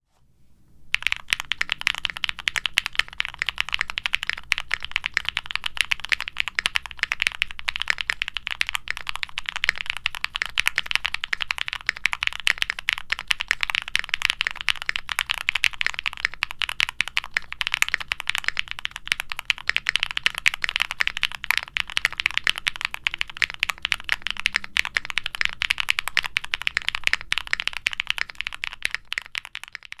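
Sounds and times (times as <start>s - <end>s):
fast mechanical keyboard typing: 0.9s - 30.0s.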